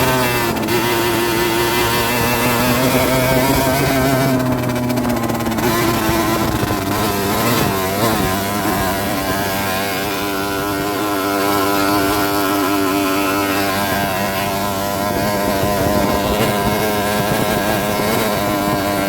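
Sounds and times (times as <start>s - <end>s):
two-stroke engine running: 0.0s - 19.0s.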